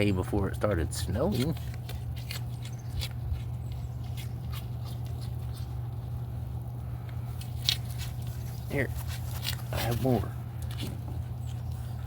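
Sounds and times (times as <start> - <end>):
deer chewing and crunching: 0.0 - 12.0
steady low hum: 0.0 - 12.0.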